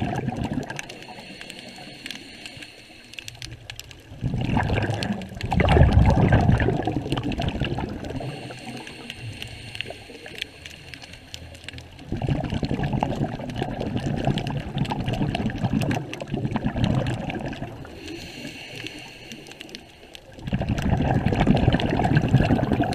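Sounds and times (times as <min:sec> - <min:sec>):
scuba regulator exhaling bubbles: 0:00.0 - 0:02.6, 0:03.2 - 0:10.9, 0:11.6 - 0:22.9.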